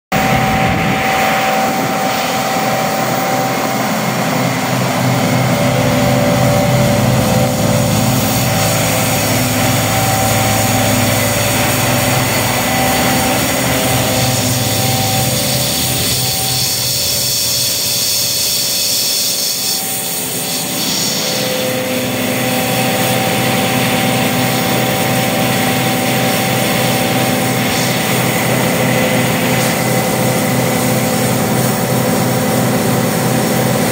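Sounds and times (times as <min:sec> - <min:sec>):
grain vacuum droning and whining: 0:00.1 - 0:33.9.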